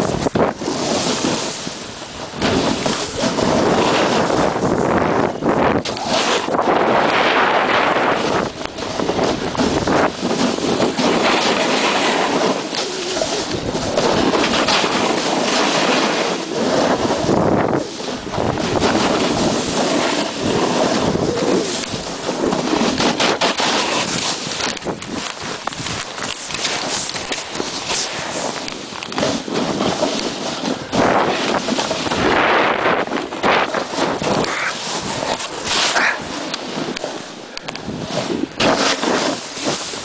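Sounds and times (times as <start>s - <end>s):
snowboard sliding through powder: 0.0s - 40.0s
wind on microphone: 0.0s - 40.0s.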